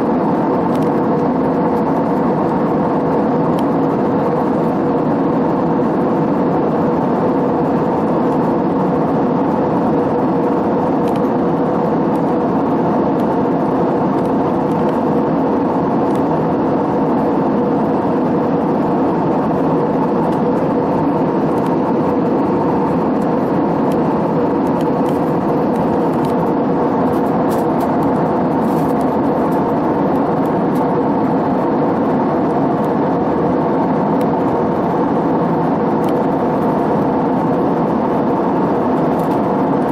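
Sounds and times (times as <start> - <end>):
jet cabin engine drone: 0.0 - 39.9
steady hum: 0.0 - 39.9.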